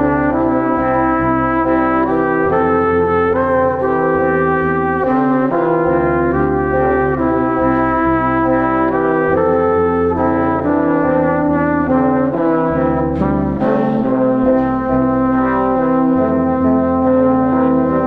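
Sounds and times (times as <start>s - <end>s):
brass instruments playing chords: 0.0s - 18.0s.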